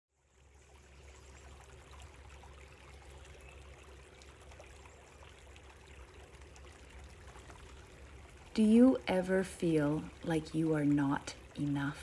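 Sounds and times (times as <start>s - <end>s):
creek babbling: 0.2s - 12.0s.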